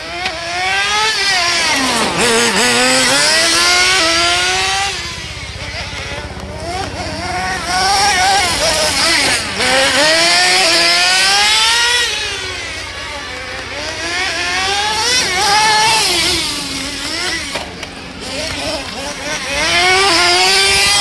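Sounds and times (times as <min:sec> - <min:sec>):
nitro engine revving: 0:00.0 - 0:21.0.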